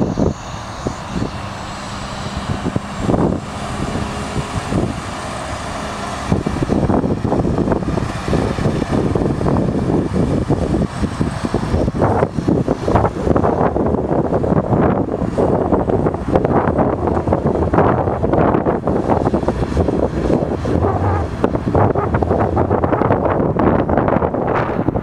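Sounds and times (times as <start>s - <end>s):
diesel engine running: 0.0s - 25.0s
wind buffeting microphone: 0.0s - 25.0s.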